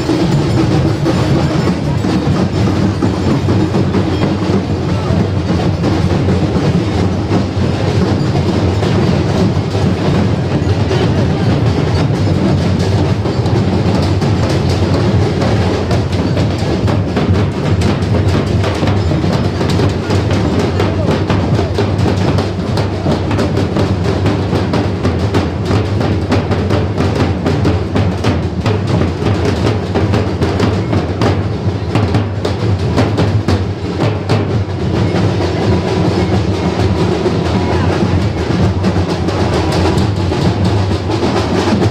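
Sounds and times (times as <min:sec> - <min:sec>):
street drum band: 0:00.0 - 0:41.9.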